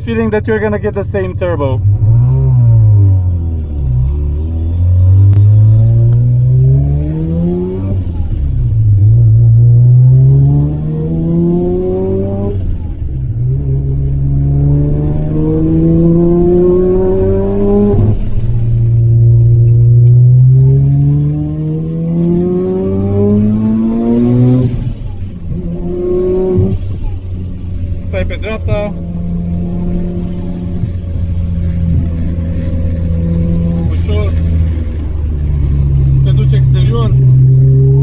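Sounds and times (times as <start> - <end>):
rotary engine accelerating: 1.7 - 38.0.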